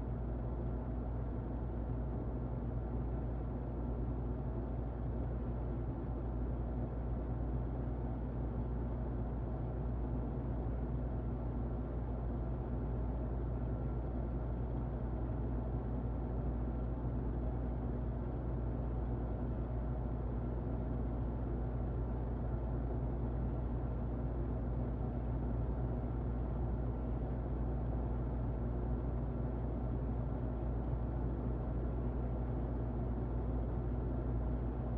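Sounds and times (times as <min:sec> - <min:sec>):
muffled electric fan running: 0:00.0 - 0:34.9.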